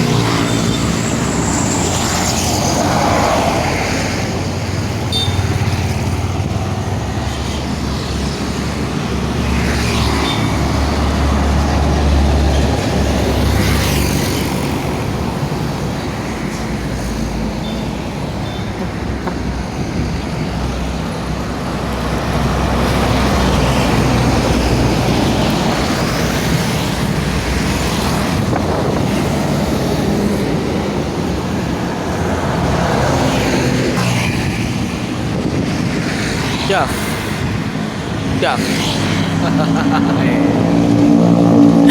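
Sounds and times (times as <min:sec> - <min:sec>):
buses and trucks passing: 0:00.0 - 0:41.9.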